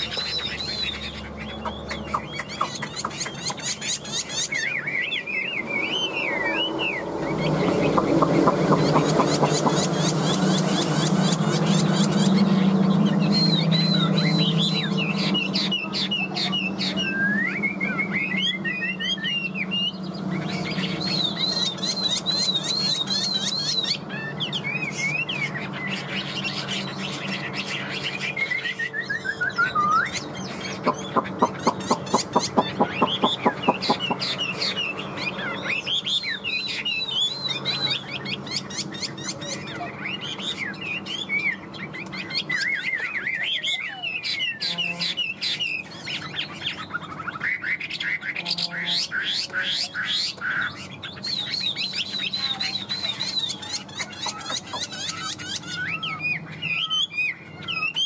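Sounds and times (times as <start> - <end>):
bird singing whistled song: 0.0 - 48.2, 49.2 - 58.0.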